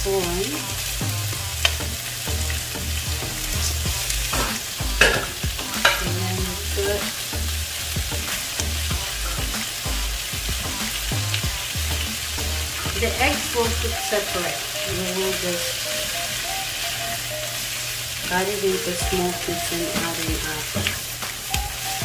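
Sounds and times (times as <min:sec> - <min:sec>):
vegetables sizzling in a wok: 0:00.0 - 0:22.0.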